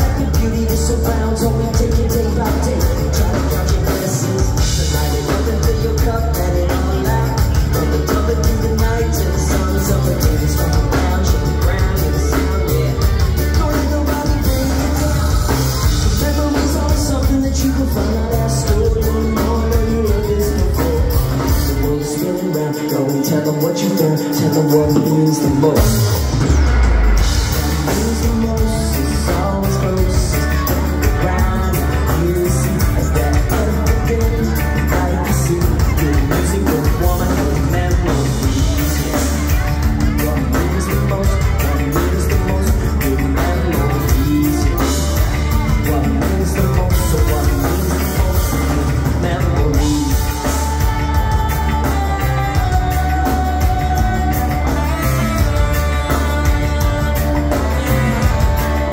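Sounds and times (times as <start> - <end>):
heavy bass and drums: 0.0 - 58.9
live rock band playing: 0.0 - 58.9
person singing: 0.0 - 58.9.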